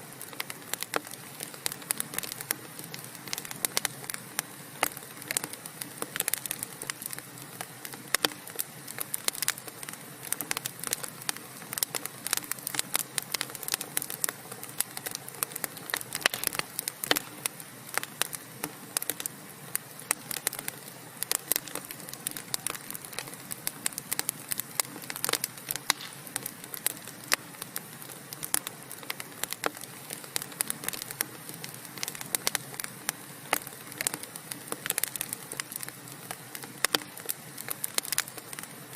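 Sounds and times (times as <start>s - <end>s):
soft steady hiss: 0.0s - 38.9s
fireplace logs crackling: 0.2s - 38.7s.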